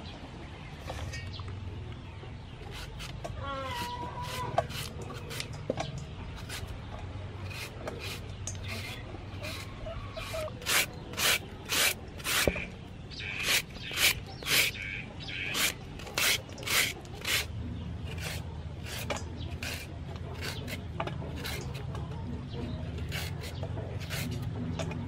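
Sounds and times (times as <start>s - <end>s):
peeler rasping mango: 2.6s - 25.0s.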